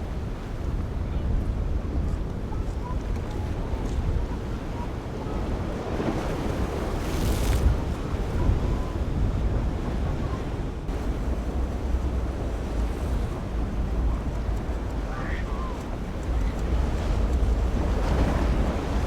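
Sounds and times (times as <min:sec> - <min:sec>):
rush of water: 0:00.0 - 0:19.0
waves breaking: 0:00.0 - 0:19.0
wind buffeting microphone: 0:00.0 - 0:19.0.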